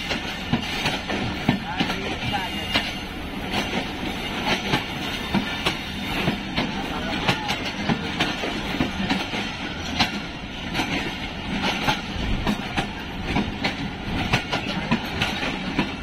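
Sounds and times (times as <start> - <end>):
train running gear rumble: 0.0 - 16.0
train wheels clicking over rail joints: 0.0 - 16.0.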